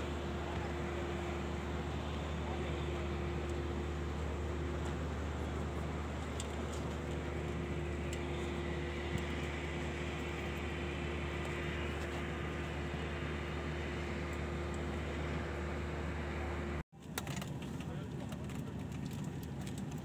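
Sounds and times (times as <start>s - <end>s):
machinery droning: 0.0s - 16.8s.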